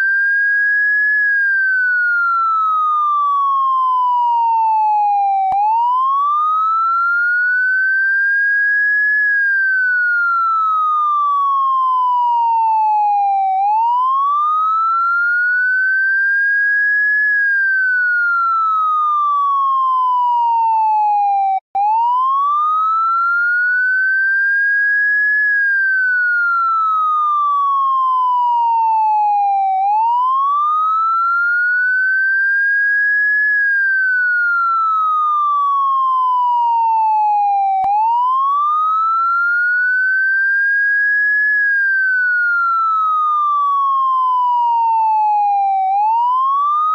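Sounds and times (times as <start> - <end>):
electronic siren slow wail: 0.0 - 46.9.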